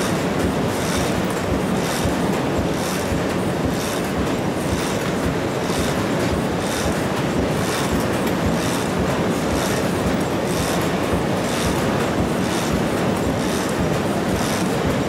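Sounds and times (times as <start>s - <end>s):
die cutting machine running: 0.0s - 15.0s.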